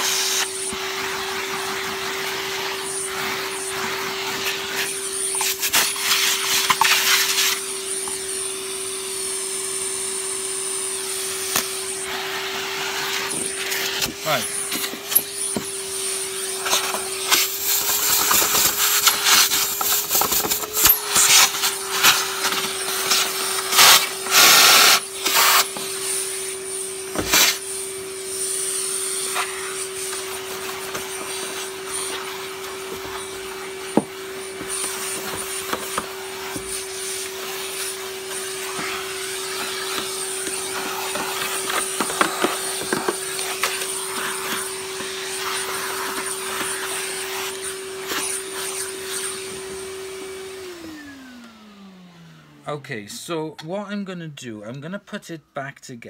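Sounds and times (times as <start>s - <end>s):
vacuum cleaner running: 0.0s - 53.4s.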